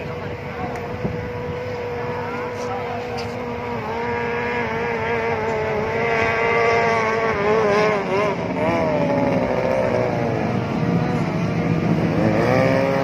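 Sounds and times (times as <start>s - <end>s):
powerboat engine whining: 0.0s - 13.0s.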